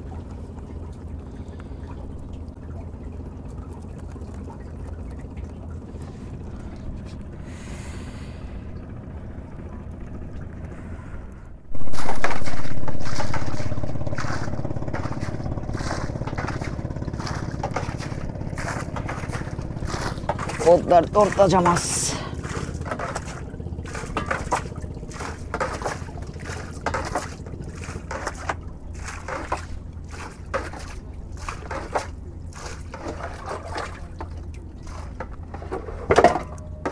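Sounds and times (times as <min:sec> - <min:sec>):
boat engine running: 0:00.0 - 0:36.9
steady low hum: 0:00.0 - 0:36.9.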